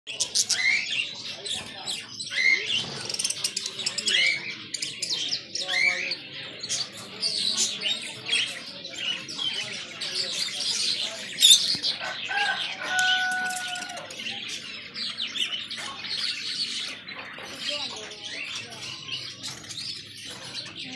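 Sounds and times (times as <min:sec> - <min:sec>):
caged birds chattering and chirping: 0:00.1 - 0:20.9.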